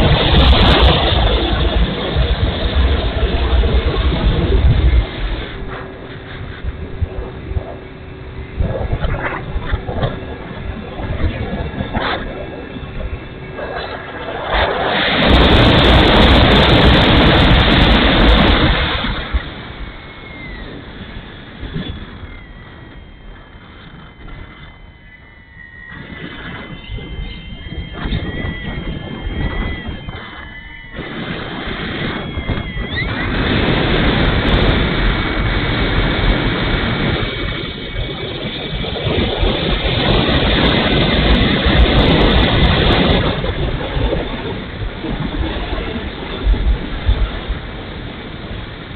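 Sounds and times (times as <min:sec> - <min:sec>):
electric motor whine: 0:00.0 - 0:48.9
wind rush on microphone: 0:00.0 - 0:48.9.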